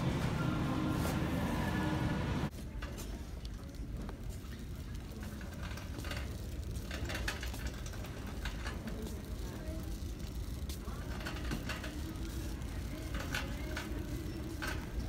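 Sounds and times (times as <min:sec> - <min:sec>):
cart wheels rumbling: 0:00.0 - 0:15.0.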